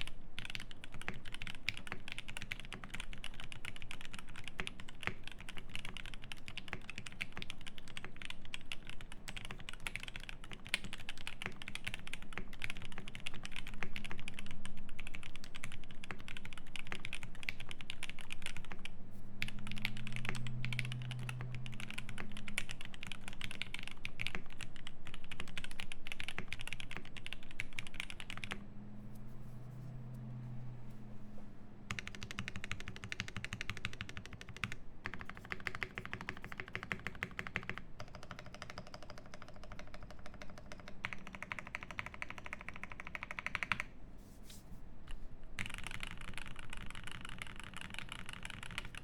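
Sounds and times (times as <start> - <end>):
fast mechanical keyboard typing: 0.0 - 28.6, 31.9 - 43.9, 45.6 - 49.0.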